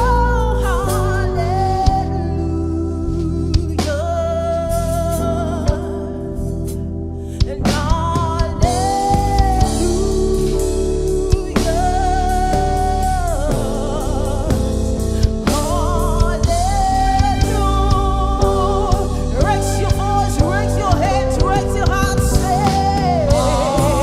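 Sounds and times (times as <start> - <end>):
band with keyboard and drums: 0.0 - 24.0.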